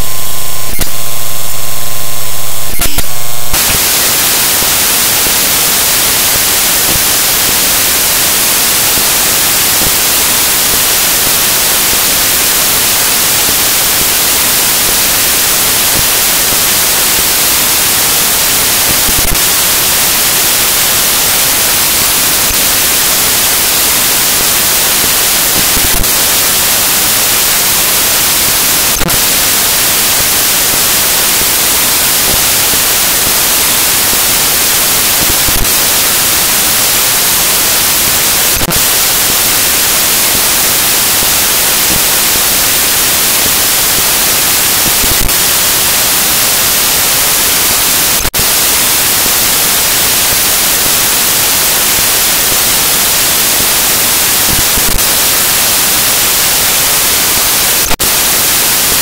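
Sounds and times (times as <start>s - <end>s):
distorted buzz: 0.0s - 59.0s
loud static hiss: 0.0s - 59.0s.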